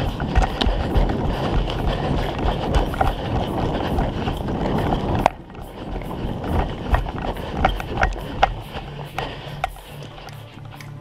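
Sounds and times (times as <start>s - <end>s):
footsteps crunching in snow: 0.0s - 11.0s
wind rumble on camera: 0.0s - 11.0s.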